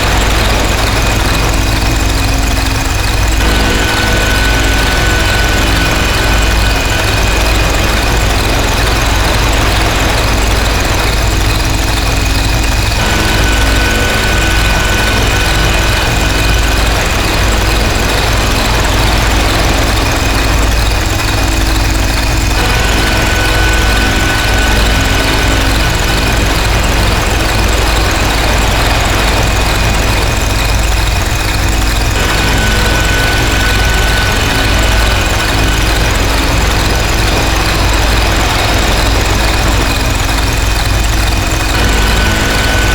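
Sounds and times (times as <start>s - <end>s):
distorted synthesizer noise drone: 0.0s - 42.9s
heavy low rumble: 0.0s - 42.9s.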